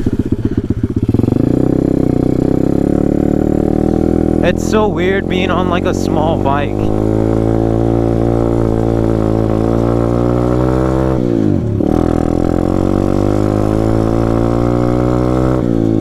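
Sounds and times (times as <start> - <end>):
motorbike engine revving: 0.0 - 16.0.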